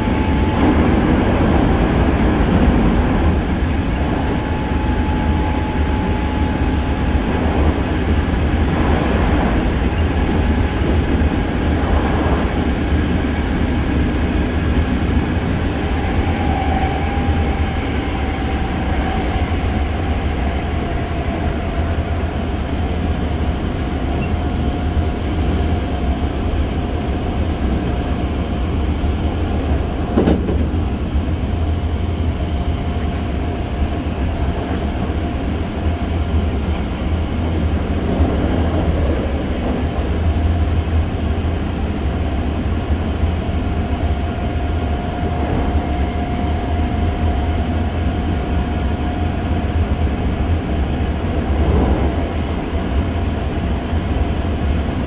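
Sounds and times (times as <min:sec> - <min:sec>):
train car deep rumble: 0:00.0 - 0:55.0.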